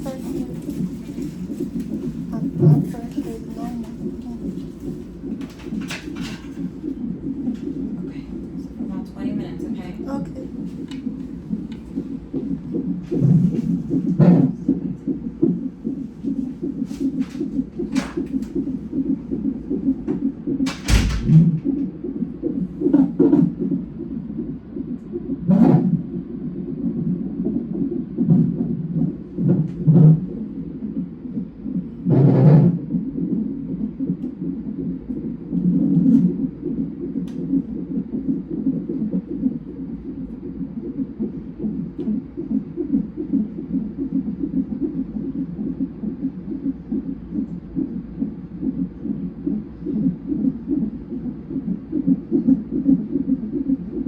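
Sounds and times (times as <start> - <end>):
pulsing heartbeat whoosh: 0.0 - 54.0.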